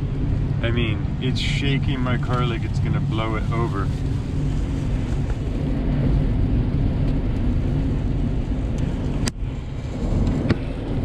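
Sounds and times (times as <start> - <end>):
wind gusts buffeting a car: 0.0 - 11.0.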